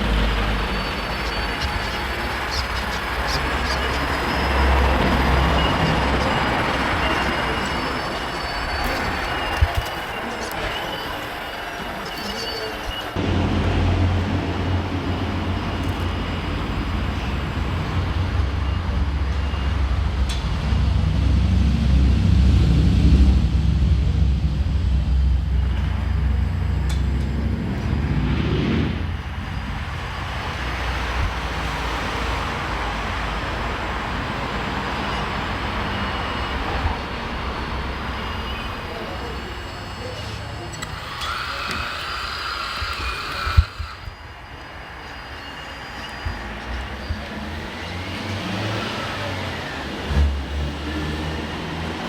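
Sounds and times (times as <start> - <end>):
simulated diesel engine rumble: 0.0 - 45.3.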